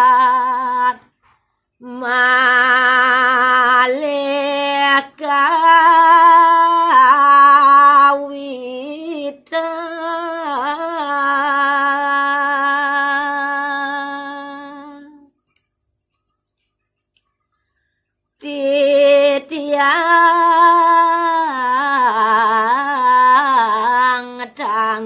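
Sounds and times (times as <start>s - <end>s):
woman singing unaccompanied: 0.0s - 1.2s, 1.8s - 15.4s, 18.4s - 25.0s.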